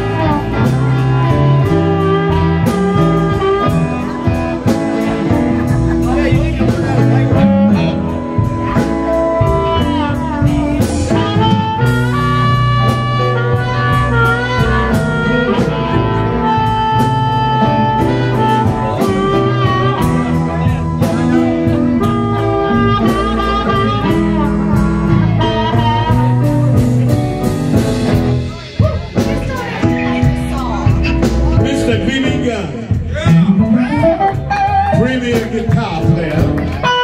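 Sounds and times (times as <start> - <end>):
amplified harmonica: 0.0 - 28.6, 29.5 - 36.0
blues band playing: 0.0 - 37.0.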